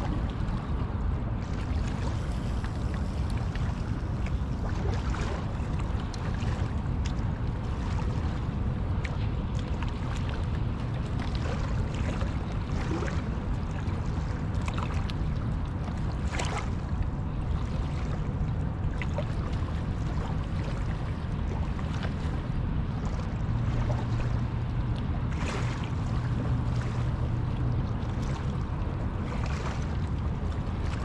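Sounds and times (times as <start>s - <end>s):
wind and water rumble: 0.0s - 31.0s.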